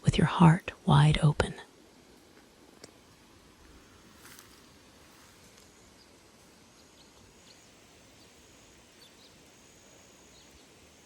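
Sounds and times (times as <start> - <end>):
low outdoor hiss: 0.0 - 11.0.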